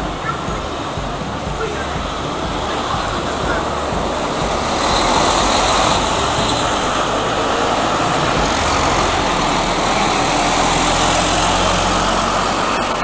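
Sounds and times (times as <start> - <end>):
diesel buses passing: 0.0 - 13.0
traffic noise: 0.0 - 13.0.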